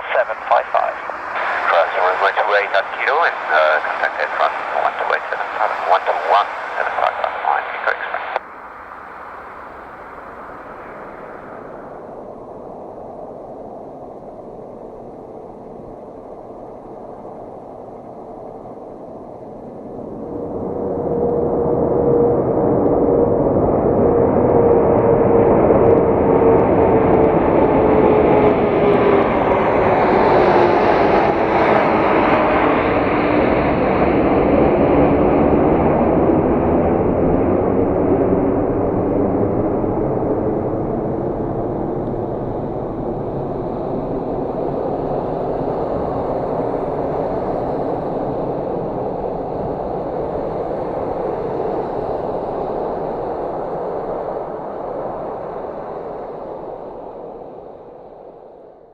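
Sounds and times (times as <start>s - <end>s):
jet engines at takeoff power: 0.0s - 58.8s.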